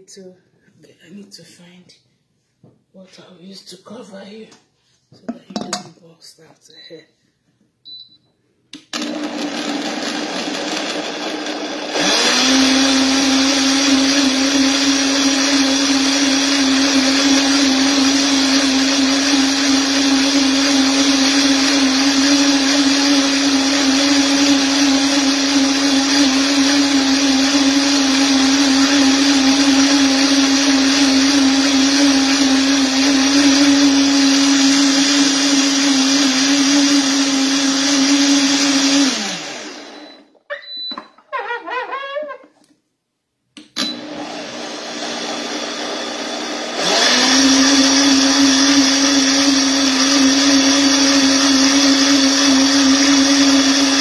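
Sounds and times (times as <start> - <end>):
countertop blender motor: 8.8 - 42.5, 43.6 - 54.0.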